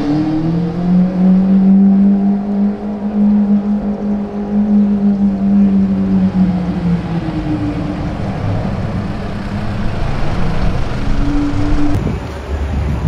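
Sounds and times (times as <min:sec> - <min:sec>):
car engine running: 0:00.0 - 0:12.0
traffic and road noise: 0:00.0 - 0:13.0.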